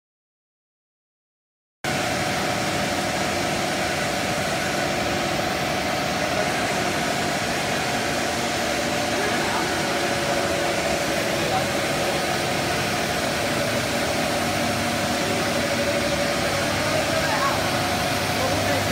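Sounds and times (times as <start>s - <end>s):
machine hum and whir: 1.9s - 18.9s.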